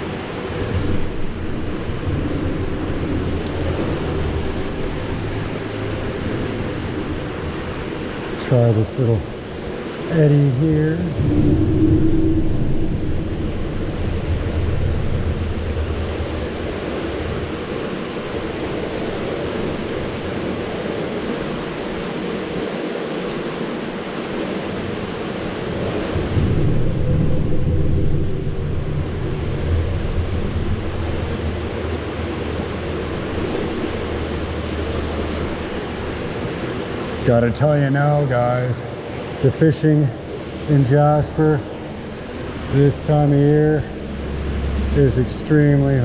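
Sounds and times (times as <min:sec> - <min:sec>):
river water rushing: 0:00.0 - 0:27.6, 0:28.3 - 0:46.0
wind rumble on microphone: 0:00.0 - 0:37.5, 0:38.7 - 0:46.0.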